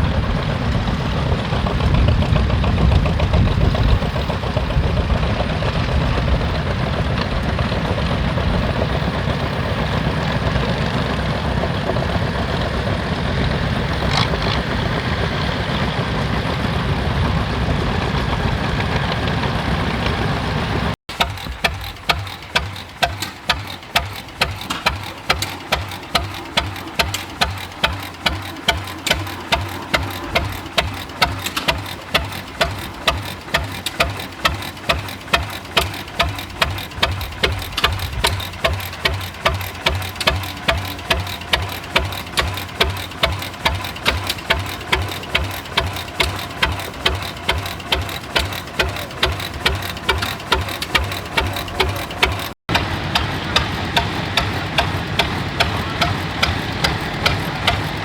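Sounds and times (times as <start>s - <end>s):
engine running loudly: 0.0s - 58.0s
slow engine popping: 0.0s - 58.0s.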